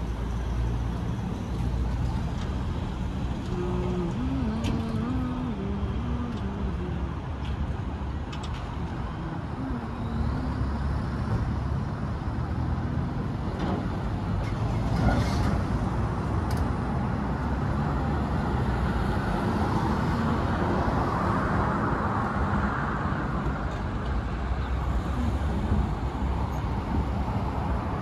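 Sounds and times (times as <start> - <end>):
low rumbling outdoor noise: 0.0 - 28.0.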